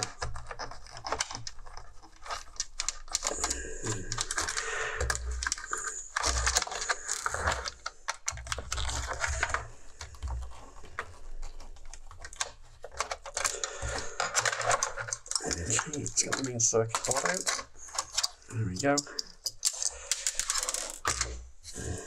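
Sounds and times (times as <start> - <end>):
small parts clicking and rattling: 0.0 - 22.0.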